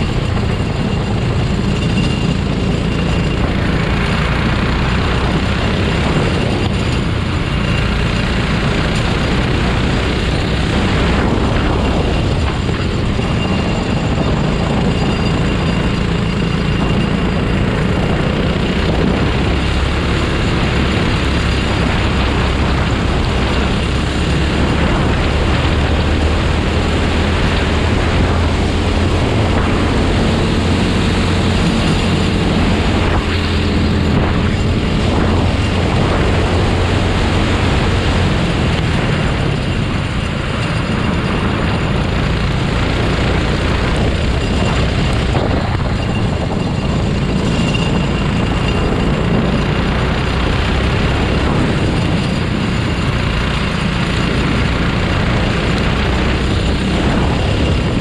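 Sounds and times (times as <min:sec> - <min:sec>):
go-kart engine revving: 0:00.0 - 0:58.0
wind and road noise: 0:00.0 - 0:58.0.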